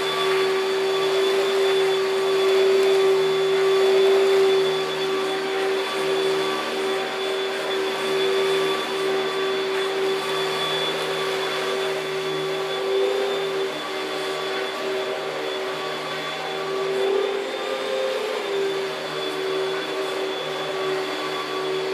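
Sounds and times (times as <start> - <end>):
vacuum cleaner running: 0.0 - 21.9.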